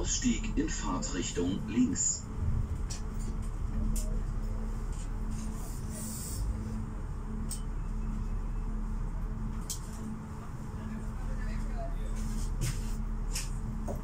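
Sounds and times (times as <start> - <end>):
hum: 0.0 - 14.0.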